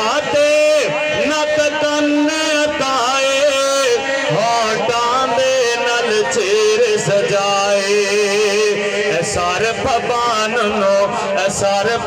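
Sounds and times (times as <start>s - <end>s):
man singing through pa system: 0.0s - 12.0s.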